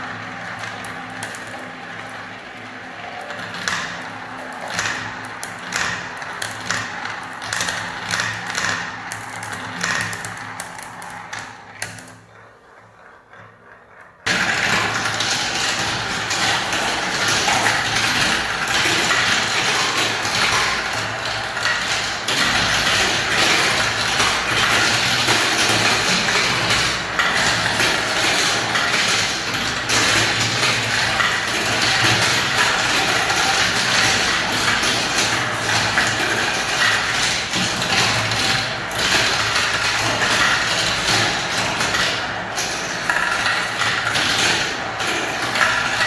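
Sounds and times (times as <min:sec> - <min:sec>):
marbles clattering down ramps: 0:00.0 - 0:12.2, 0:14.2 - 0:46.0.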